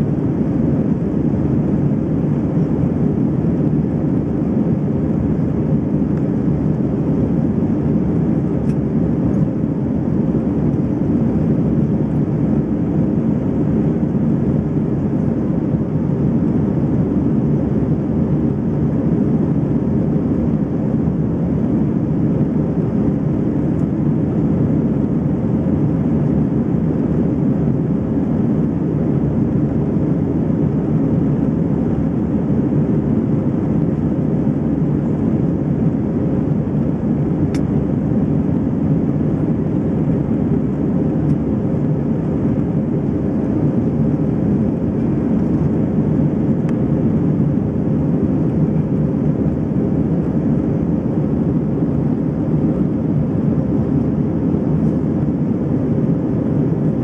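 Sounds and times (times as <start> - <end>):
airplane engines droning: 0.0 - 57.0
faint steady hum: 0.0 - 57.0.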